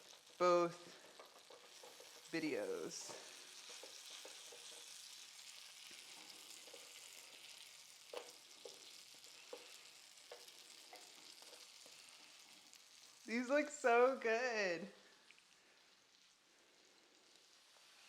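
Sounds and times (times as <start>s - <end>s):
pancakes sizzling in a frying pan: 0.0s - 18.0s.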